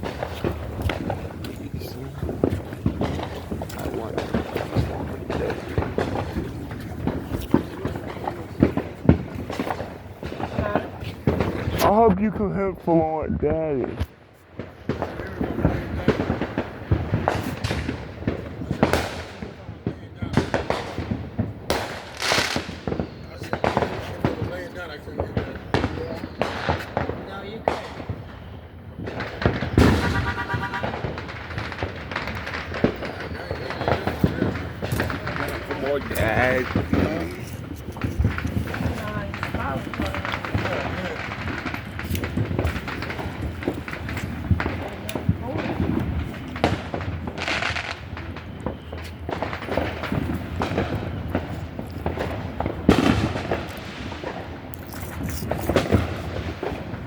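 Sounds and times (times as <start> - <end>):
fireworks bang: 0.0 - 54.7, 55.4 - 57.0
fireworks crackling pops: 0.0 - 57.0.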